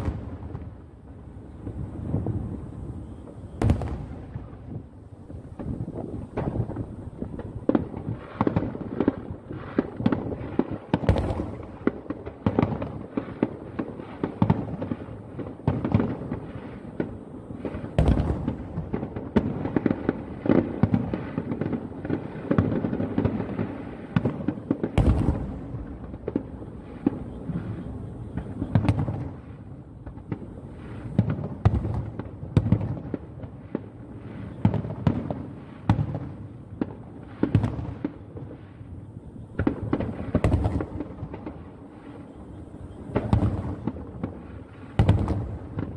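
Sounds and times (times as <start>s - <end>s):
sharp firework bangs: 0.0s - 0.8s, 1.5s - 38.6s, 39.4s - 45.9s
firework booms and crackles: 0.0s - 45.9s.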